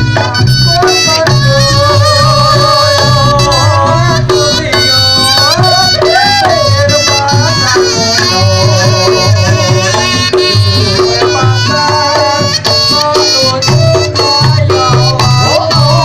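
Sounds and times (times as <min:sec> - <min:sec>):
repeating drumming: 0:00.0 - 0:16.0
wavering gamelan melody: 0:00.0 - 0:16.0.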